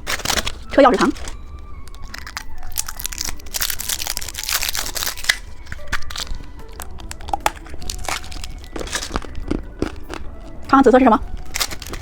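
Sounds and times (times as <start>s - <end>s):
candy packaging crinkling: 0.0s - 12.0s.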